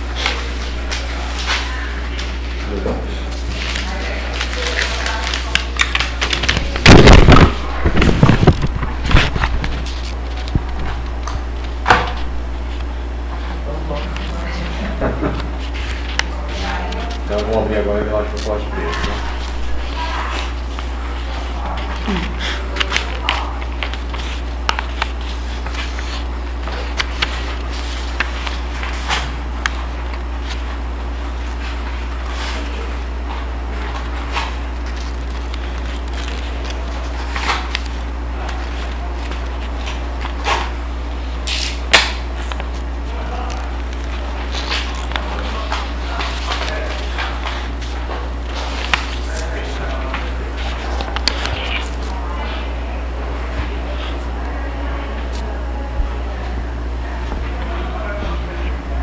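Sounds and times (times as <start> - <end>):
papers rustling: 0.0 - 55.5
low electrical hum: 0.0 - 59.0.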